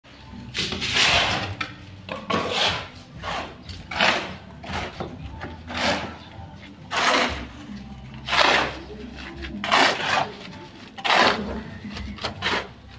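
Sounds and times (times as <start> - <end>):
shovel scraping wet cement: 0.5 - 12.9.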